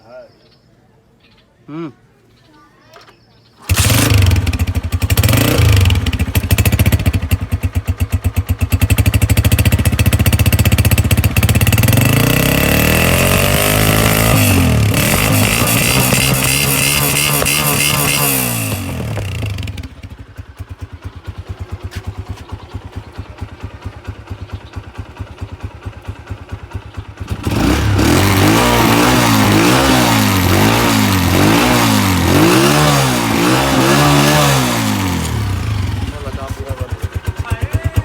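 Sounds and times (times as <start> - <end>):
motorcycle engine idling: 3.6 - 38.0
motorcycle engine revving: 3.6 - 38.0.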